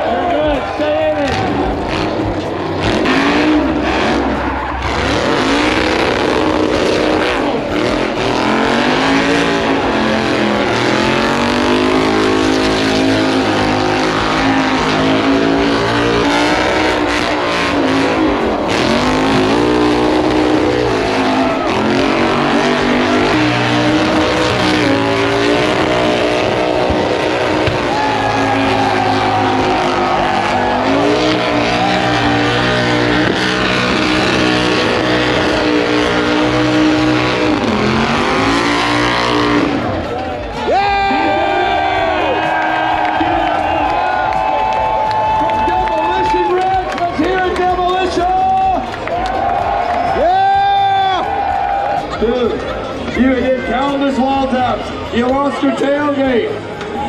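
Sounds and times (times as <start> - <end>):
car engine at high revs: 0.0 - 50.3
tyres spinning on pavement: 0.0 - 57.0.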